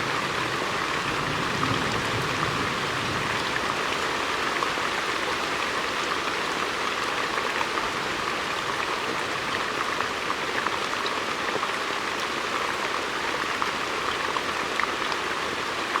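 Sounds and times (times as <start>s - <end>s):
heavy rain on leaves: 0.0s - 16.0s.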